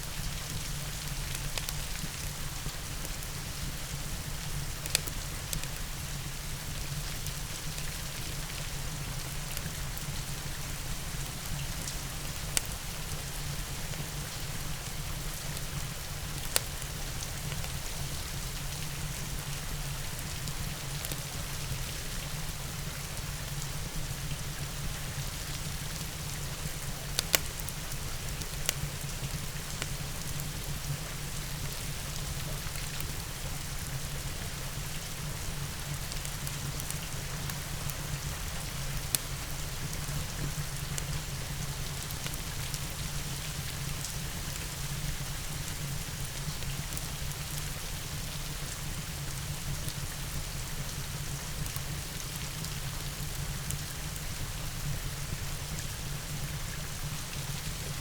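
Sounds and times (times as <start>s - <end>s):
crackling fireplace: 0.0s - 58.0s
steady rain hiss: 0.0s - 58.0s.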